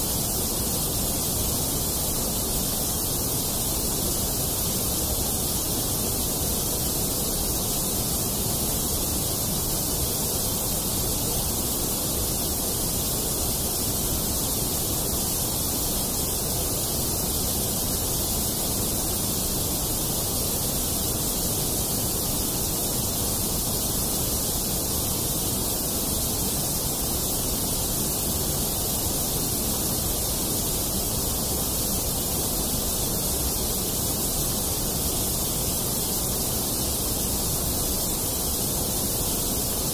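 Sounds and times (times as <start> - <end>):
steady synthetic noise hiss: 0.0 - 39.9.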